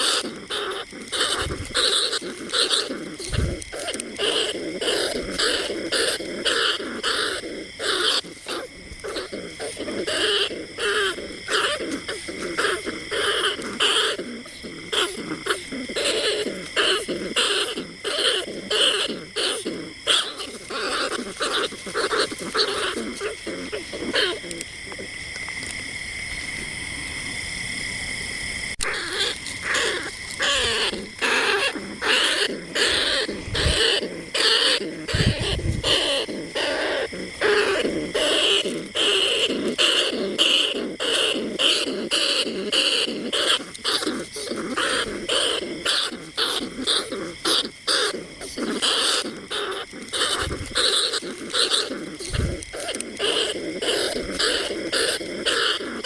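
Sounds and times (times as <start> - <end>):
rats squeaking and chattering: 0.0 - 25.8, 28.8 - 56.0.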